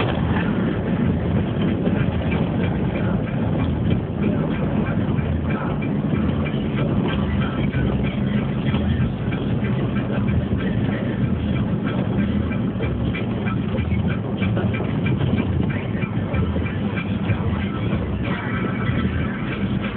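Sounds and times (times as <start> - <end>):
vehicle engine droning: 0.0 - 19.9.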